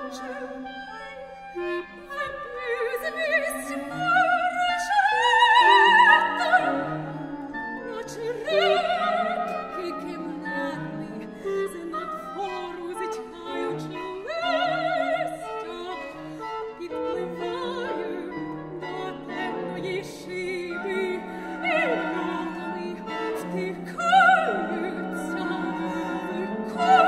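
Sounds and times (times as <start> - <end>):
chamber ensemble with violin: 0.0 - 27.0
soprano singing with vibrato: 0.0 - 27.0.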